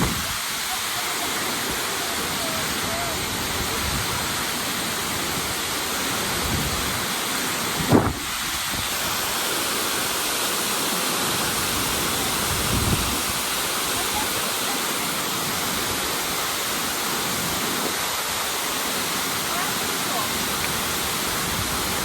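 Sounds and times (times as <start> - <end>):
waterfall crashing: 0.0 - 22.0.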